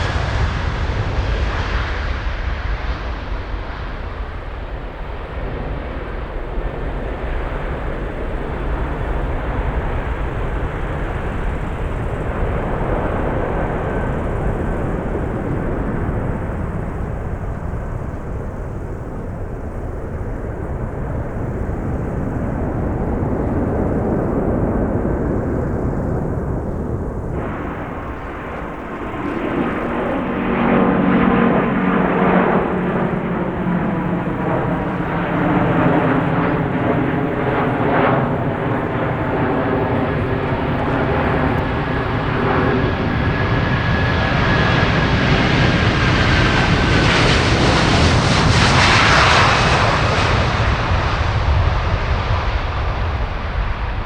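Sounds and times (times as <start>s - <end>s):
engine whine: 0.0s - 54.0s
jet engines roaring: 0.0s - 54.0s.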